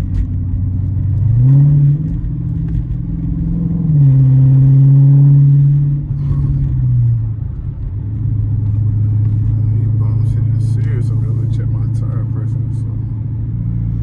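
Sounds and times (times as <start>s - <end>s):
car exhaust accelerating: 0.0s - 14.0s.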